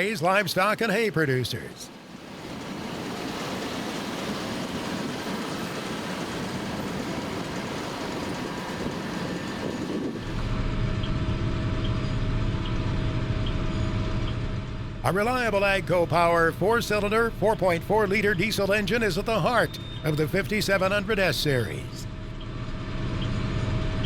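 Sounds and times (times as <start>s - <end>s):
tractor diesel engine running: 1.5s - 24.0s.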